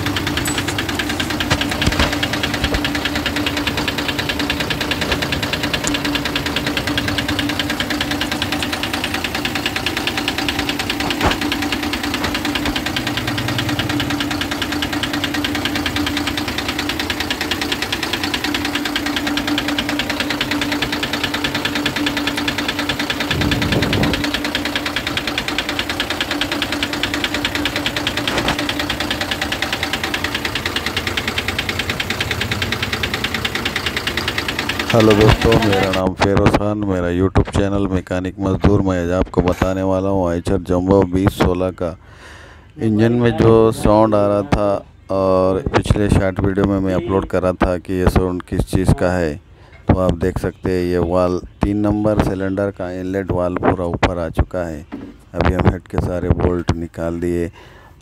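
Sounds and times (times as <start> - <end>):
rapid metallic engine knock: 0.0 - 41.8, 49.8 - 57.0
diesel engine running: 0.0 - 58.0.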